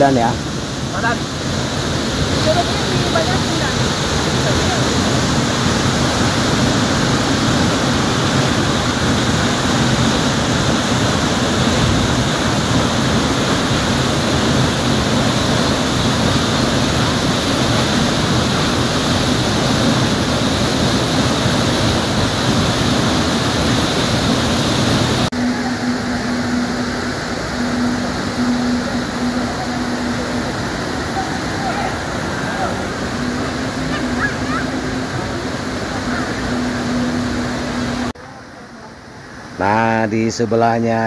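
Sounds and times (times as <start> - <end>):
waterfall rushing: 0.0 - 39.7.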